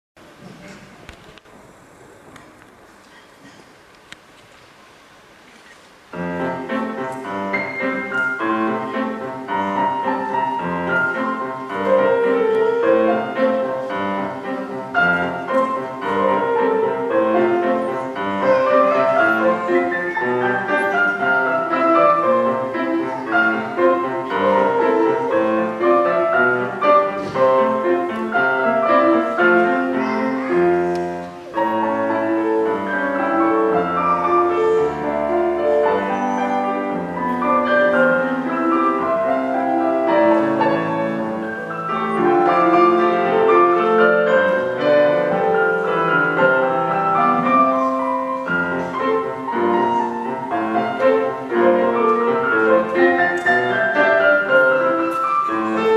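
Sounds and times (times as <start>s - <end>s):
classical piano piece: 4.7s - 55.9s.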